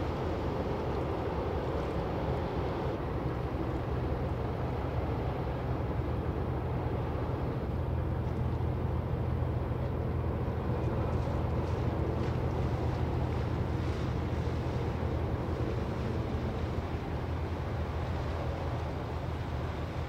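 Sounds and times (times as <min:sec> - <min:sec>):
constant rushing haze: 0:00.0 - 0:20.0
ship engine drone: 0:00.0 - 0:20.0.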